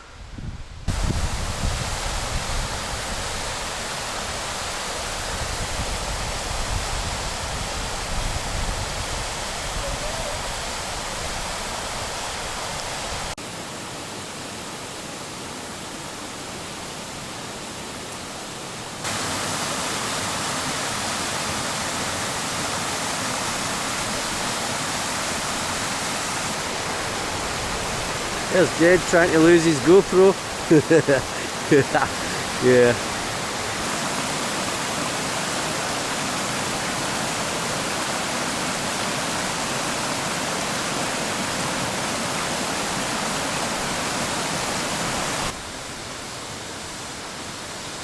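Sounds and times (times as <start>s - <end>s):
waterfall rushing: 0.9s - 48.0s.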